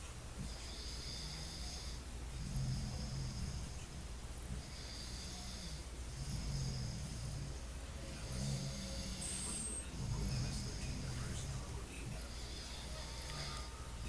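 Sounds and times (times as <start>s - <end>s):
person snoring: 0.4s - 3.8s, 4.6s - 13.8s.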